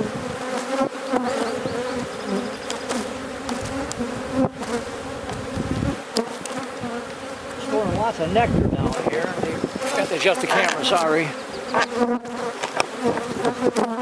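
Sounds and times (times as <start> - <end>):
bees buzzing in a swarm: 0.0 - 14.0
hive frames clicking: 0.4 - 8.2, 8.8 - 14.0.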